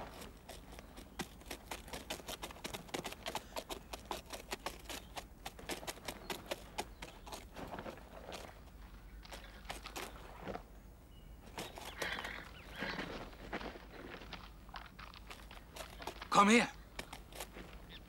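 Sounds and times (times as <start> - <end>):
horse hooves clopping: 0.0 - 10.6, 11.5 - 18.0.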